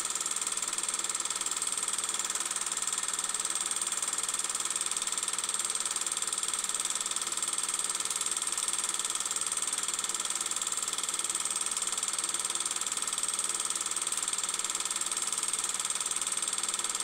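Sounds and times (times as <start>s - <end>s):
film projector clattering: 0.0s - 17.0s.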